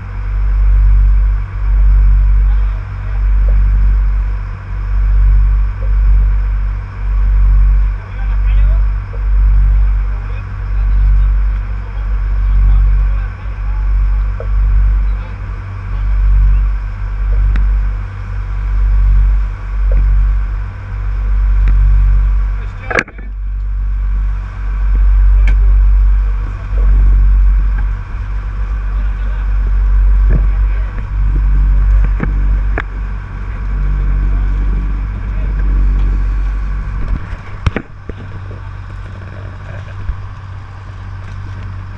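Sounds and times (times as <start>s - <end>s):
boat engine rumbling: 0.0s - 41.9s.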